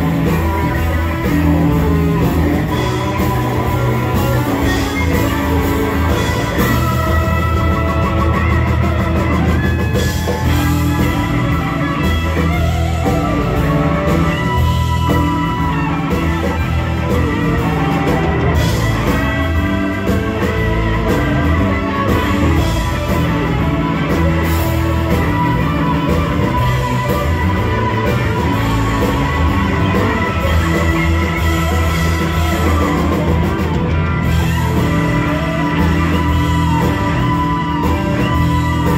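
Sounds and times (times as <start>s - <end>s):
blues-rock band playing: 0.0s - 38.9s
electric guitar lead: 0.0s - 38.9s.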